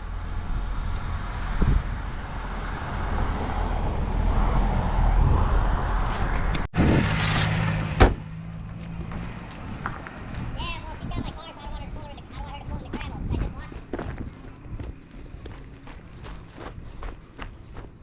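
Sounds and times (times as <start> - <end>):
car engine rumbling: 0.0 - 17.7.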